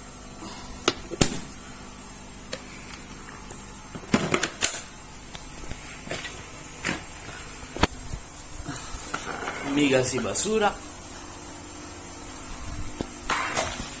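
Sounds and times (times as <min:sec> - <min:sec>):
vacuum cleaner humming and whining: 0:00.0 - 0:14.0.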